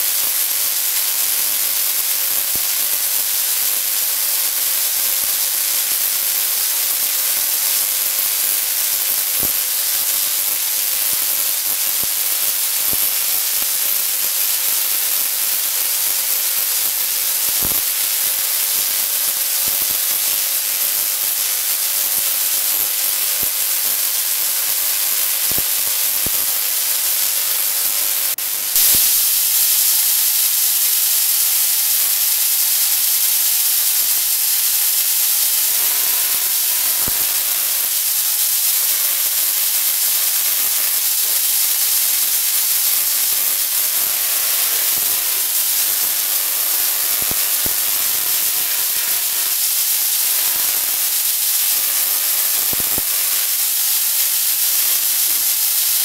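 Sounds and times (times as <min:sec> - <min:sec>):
tesla coil spark crackling: 0:00.0 - 0:56.0.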